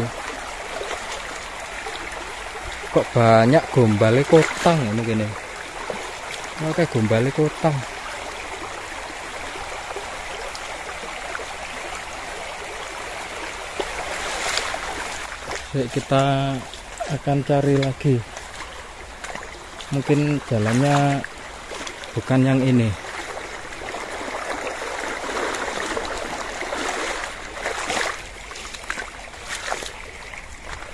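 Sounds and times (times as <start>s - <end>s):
river water flowing over stones: 0.0s - 30.9s.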